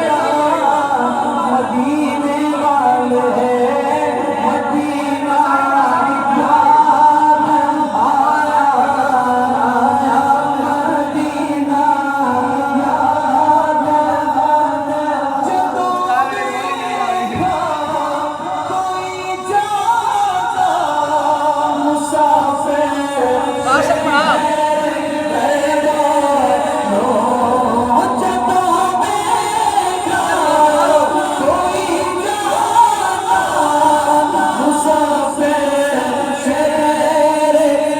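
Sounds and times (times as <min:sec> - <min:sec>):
song with singing: 0:00.0 - 0:37.9.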